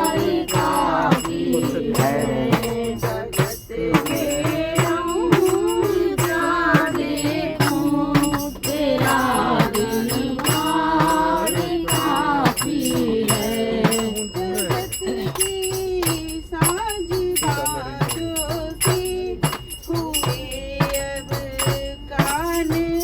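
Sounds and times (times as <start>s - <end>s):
devotional singing: 0.0s - 23.0s
hand percussion beat: 0.0s - 23.0s.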